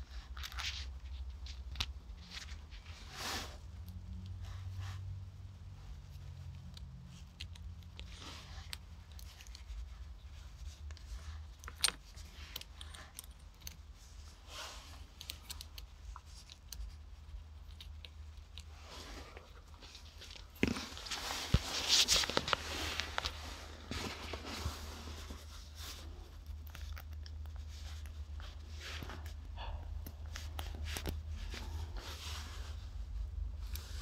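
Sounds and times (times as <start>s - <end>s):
small parts clicking and rustling: 0.0s - 4.6s, 5.8s - 32.0s
low steady hum: 0.0s - 34.0s.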